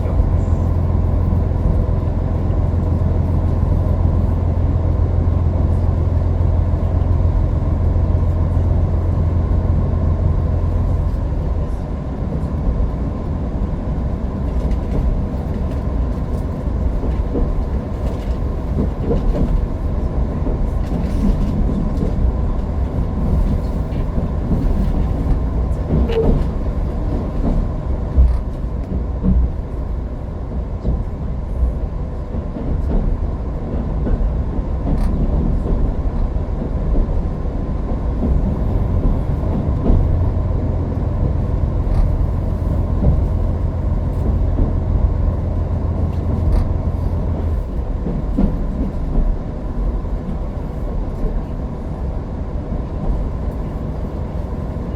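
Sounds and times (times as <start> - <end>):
train rumbling at speed: 0.0 - 54.9.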